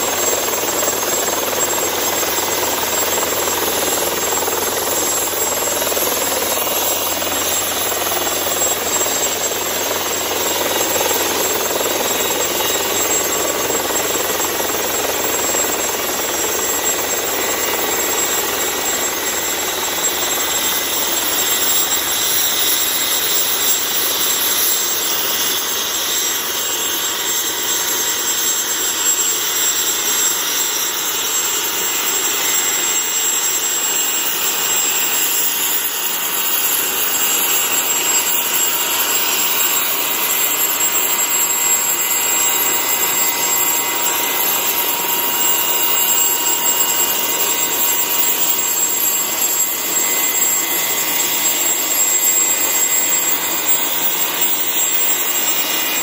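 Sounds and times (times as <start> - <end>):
helicopter turbine engine running: 0.0 - 56.0.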